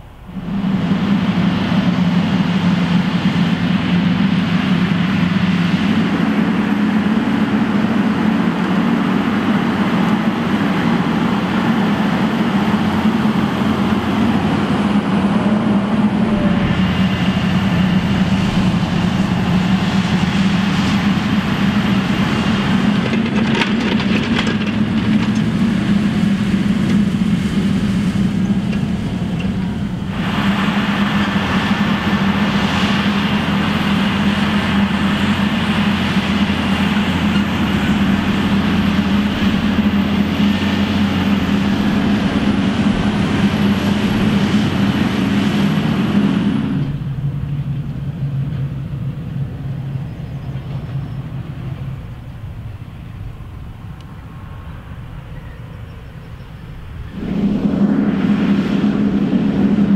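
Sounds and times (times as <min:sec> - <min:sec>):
tractor diesel engine under load: 0:00.0 - 0:59.9
harrow discs rushing through soil: 0:00.4 - 0:48.6.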